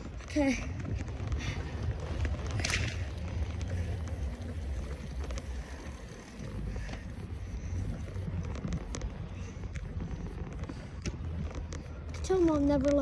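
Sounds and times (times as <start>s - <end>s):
bicycle clicks and rattles: 0.0s - 13.0s
wind rumbling on microphone: 0.0s - 13.0s.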